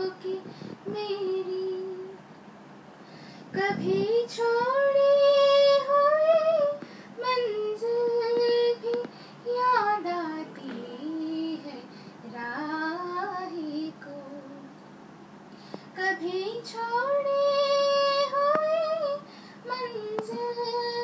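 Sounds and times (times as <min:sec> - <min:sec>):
woman singing into a microphone: 0:00.0 - 0:02.2, 0:03.5 - 0:14.7, 0:15.9 - 0:21.0.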